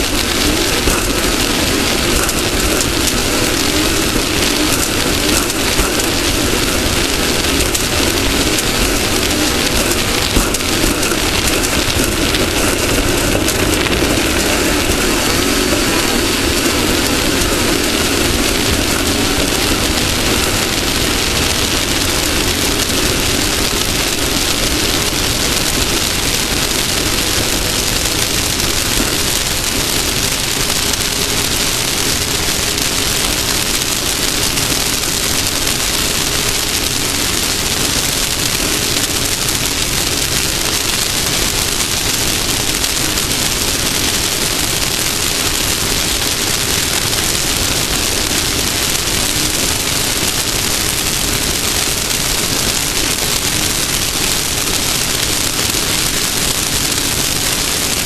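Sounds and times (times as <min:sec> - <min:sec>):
race car engine running: 0:00.0 - 0:50.4
wind hiss: 0:00.0 - 0:50.9.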